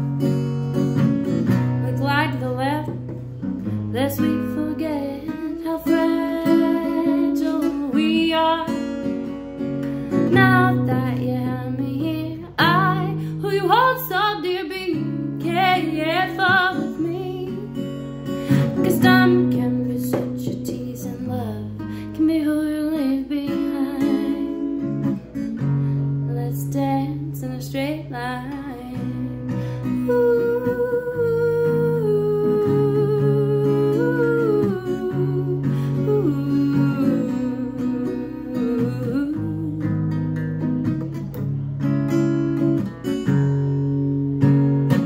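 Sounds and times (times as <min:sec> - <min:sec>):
acoustic guitar strumming: 0:00.0 - 0:45.0
woman singing: 0:01.5 - 0:09.5, 0:10.1 - 0:25.1, 0:26.1 - 0:41.3.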